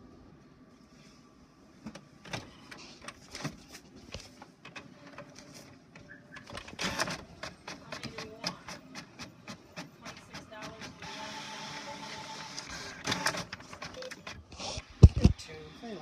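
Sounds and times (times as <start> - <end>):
printer clicks and whirs: 1.8 - 16.0.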